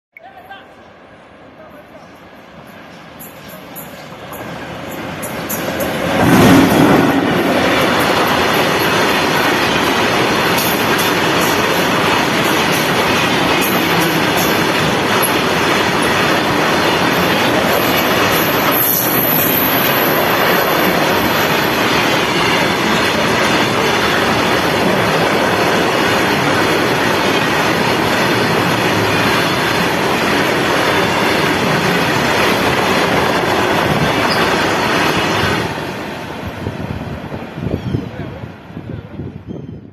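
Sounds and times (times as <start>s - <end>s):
freight train passing: 0.2s - 39.9s
wheels clacking over rails: 3.2s - 35.9s.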